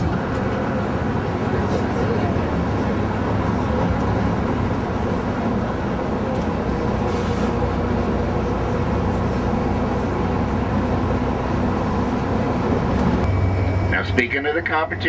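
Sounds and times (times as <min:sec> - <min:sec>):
bus driving rumble: 0:00.0 - 0:15.0.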